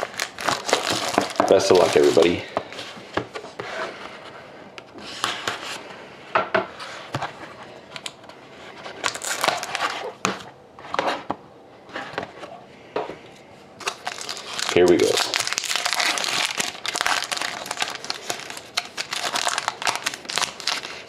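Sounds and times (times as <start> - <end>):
cardboard and plastic rustling: 0.0 - 5.8, 6.8 - 12.6, 13.8 - 21.0.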